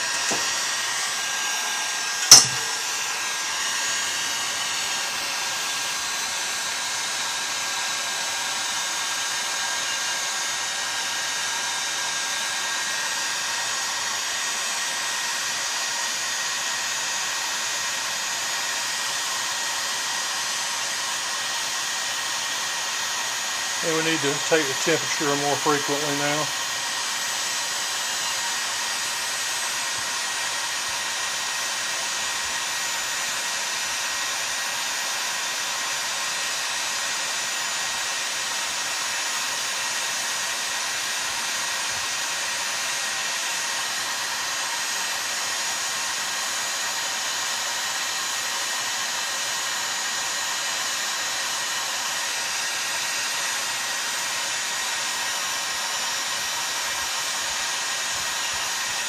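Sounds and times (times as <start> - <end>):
heat gun blowing: 0.0 - 59.0.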